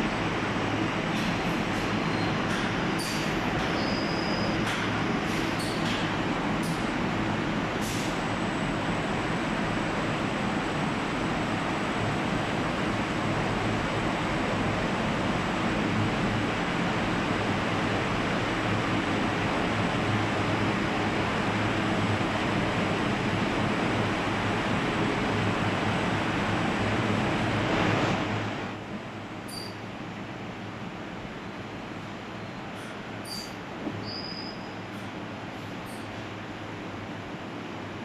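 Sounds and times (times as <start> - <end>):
oven blowers rushing air: 0.0 - 38.0.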